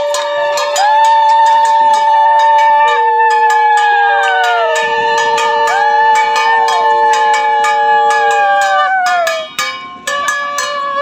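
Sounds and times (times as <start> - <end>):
women ululating: 0.0 - 9.5
conch shell blowing: 0.0 - 11.0
metal percussion: 0.0 - 11.0.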